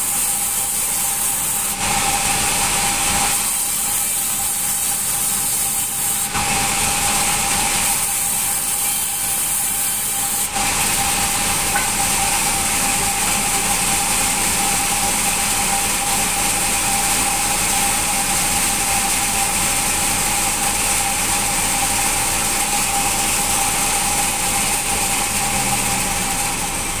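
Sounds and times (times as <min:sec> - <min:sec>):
band saw cutting wood: 0:00.0 - 0:27.0.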